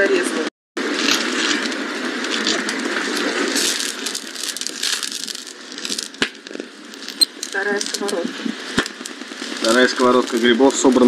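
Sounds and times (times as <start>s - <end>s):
mushrooms sizzling in a pan: 0.9s - 11.0s.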